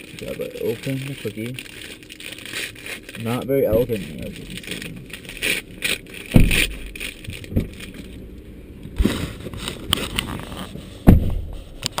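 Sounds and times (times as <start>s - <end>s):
paper wrapper crinkling: 0.0s - 8.3s, 9.0s - 10.8s.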